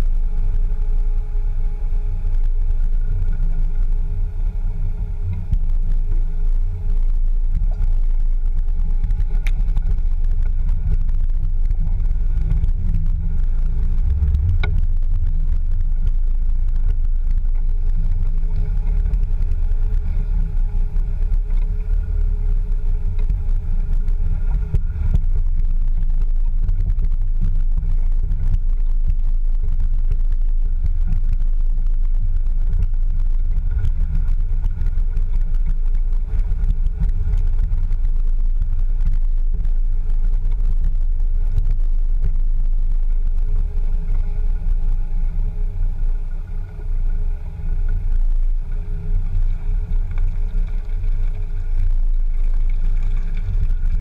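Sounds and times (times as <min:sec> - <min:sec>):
low engine rumble: 0:00.0 - 0:54.0.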